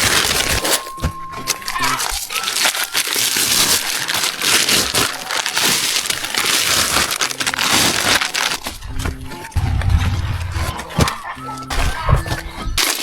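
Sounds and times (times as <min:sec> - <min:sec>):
sawdust logs crunching apart: 0:00.0 - 0:13.0.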